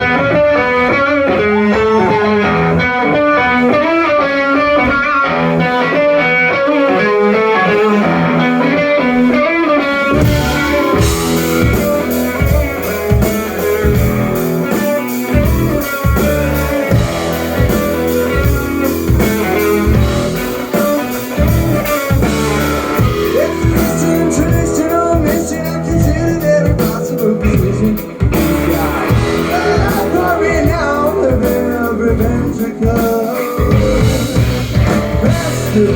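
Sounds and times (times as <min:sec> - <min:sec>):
drums: 0:00.0 - 0:35.9
guitar picked riff: 0:00.0 - 0:35.9
rock band playing: 0:00.0 - 0:35.9.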